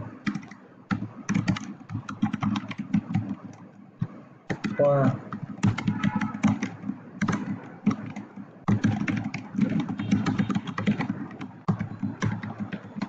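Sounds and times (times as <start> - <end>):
keyboard typing: 0.0 - 13.0.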